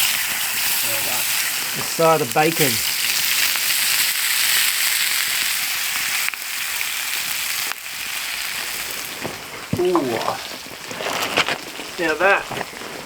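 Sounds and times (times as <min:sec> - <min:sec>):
bacon sizzling in a pan: 0:00.0 - 0:13.0.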